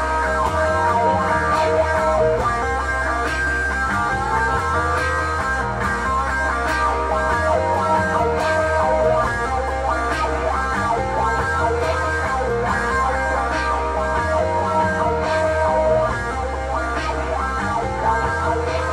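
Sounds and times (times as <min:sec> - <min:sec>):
layered electric guitar lines: 0:00.0 - 0:18.9
repeating bass line: 0:00.0 - 0:18.9.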